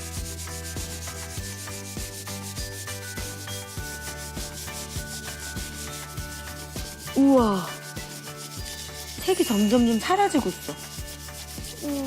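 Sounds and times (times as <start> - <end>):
background music with steady beat: 0.0 - 12.0
crayon scribbling on paper: 0.0 - 12.0.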